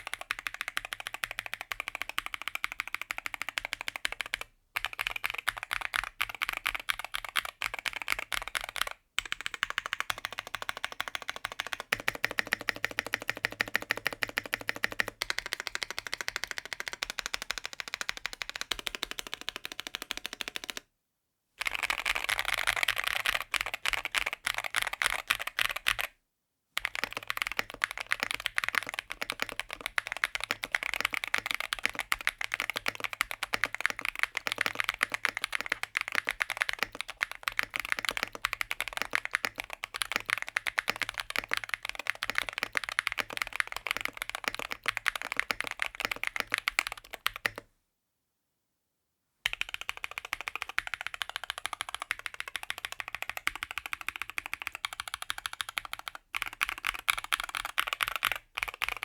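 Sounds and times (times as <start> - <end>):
mechanical keyboard typing: 0.0 - 20.8, 21.6 - 26.1, 26.8 - 47.6, 49.5 - 59.0.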